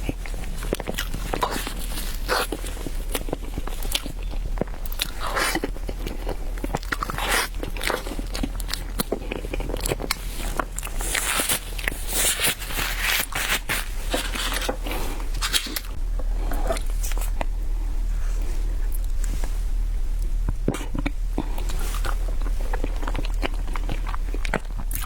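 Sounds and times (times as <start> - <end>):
person chewing bread: 0.0 - 25.0
steady low hum: 0.0 - 25.0.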